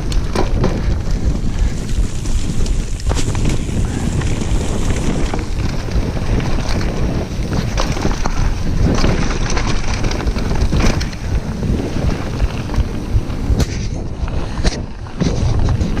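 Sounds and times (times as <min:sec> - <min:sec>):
bike rattling over bumps: 0:00.0 - 0:16.0
tyres rumbling on dirt: 0:00.0 - 0:16.0
wind buffeting microphone: 0:00.0 - 0:16.0.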